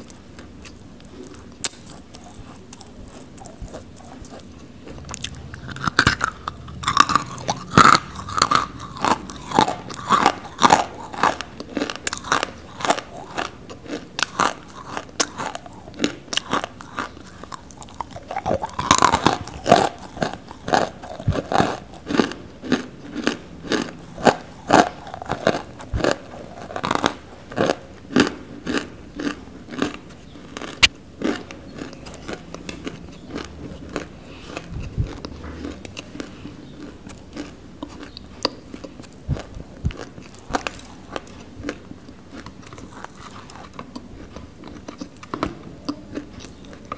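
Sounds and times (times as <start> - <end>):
person crunching and chewing clay: 0.0 - 46.9.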